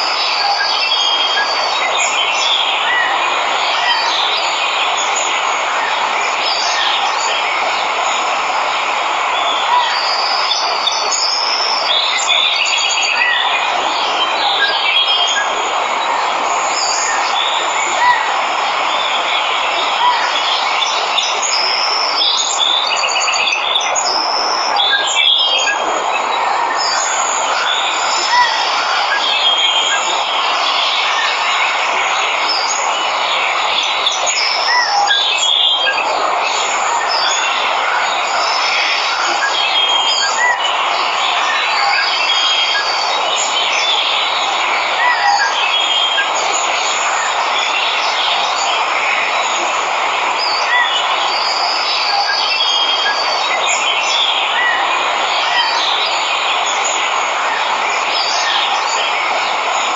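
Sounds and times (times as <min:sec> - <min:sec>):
waterfall rushing: 0:00.0 - 0:59.9
birds chirping: 0:09.3 - 0:59.9.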